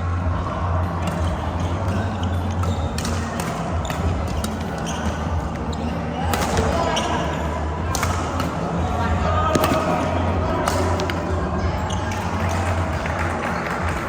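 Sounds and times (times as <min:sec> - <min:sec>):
voices in sports hall: 0:00.0 - 0:14.0
rackets hitting shuttlecock: 0:00.9 - 0:12.9.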